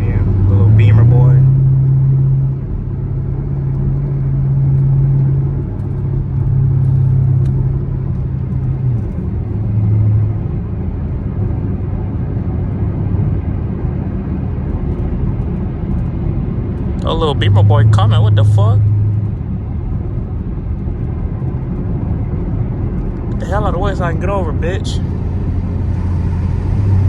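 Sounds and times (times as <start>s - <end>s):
car engine and exhaust drone: 0.0s - 27.0s
tyre and road noise: 0.0s - 27.0s.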